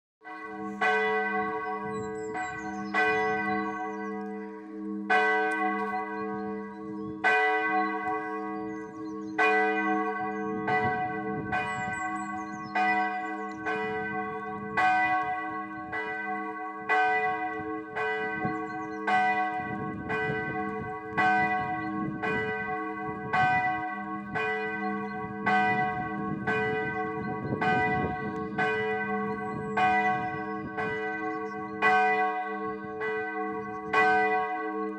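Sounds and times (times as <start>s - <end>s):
church bell ringing: 0.2s - 34.9s.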